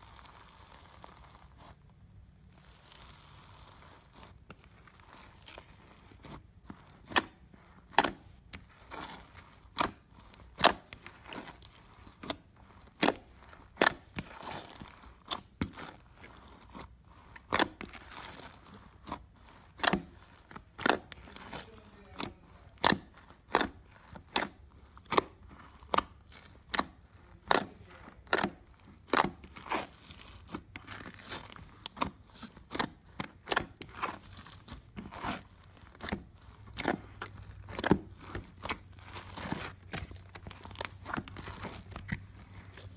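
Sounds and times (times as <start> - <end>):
slime crunching and popping: 0.0 - 42.9.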